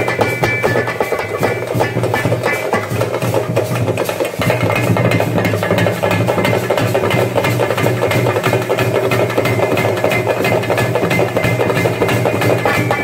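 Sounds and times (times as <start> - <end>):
fast drumming: 0.0 - 13.0
metal cymbal-like percussion: 0.0 - 13.0.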